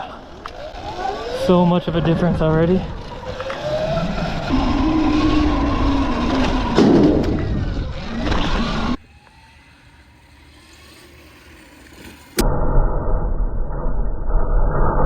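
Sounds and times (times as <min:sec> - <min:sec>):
tyre noise: 0:00.0 - 0:12.4
electric motor whine: 0:00.2 - 0:12.4.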